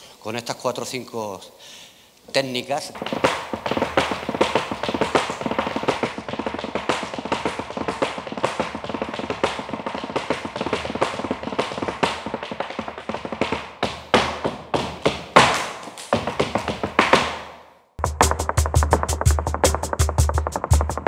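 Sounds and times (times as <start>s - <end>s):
handclaps keeping time: 3.0s - 17.3s, 18.0s - 21.0s
dance shoes tapping on platform: 3.0s - 21.0s.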